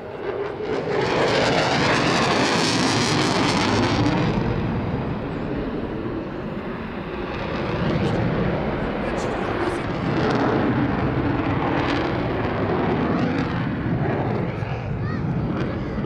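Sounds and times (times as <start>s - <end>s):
fighter jet roaring past: 0.0s - 16.0s.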